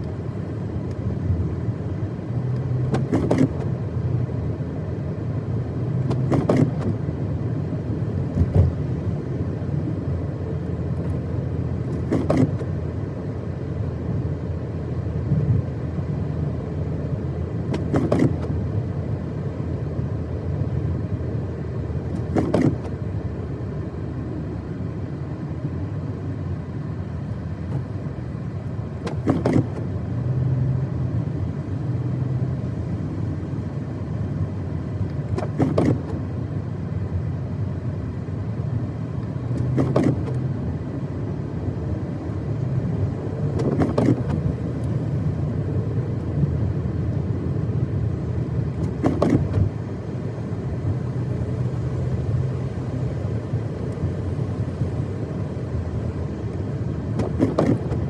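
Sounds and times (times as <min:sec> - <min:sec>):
engine and tyres rumbling: 0:00.0 - 0:58.0.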